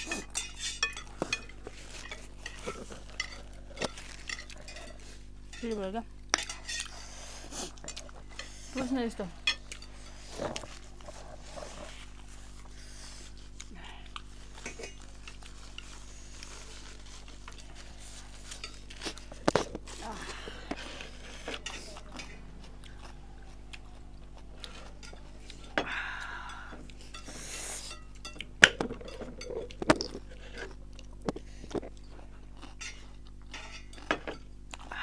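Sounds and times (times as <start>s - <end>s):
person chewing: 0.0s - 35.0s
steady low hum: 0.0s - 35.0s.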